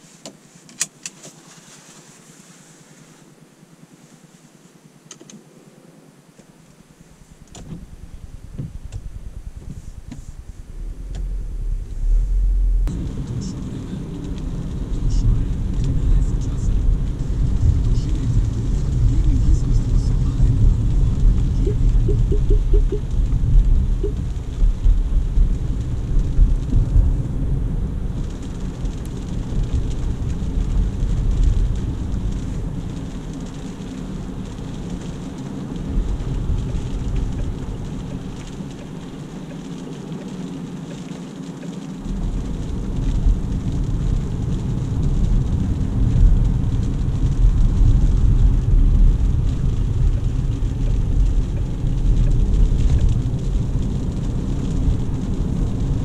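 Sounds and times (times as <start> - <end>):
car engine: 4.9 - 56.0
tyre and road rumble: 5.1 - 56.0.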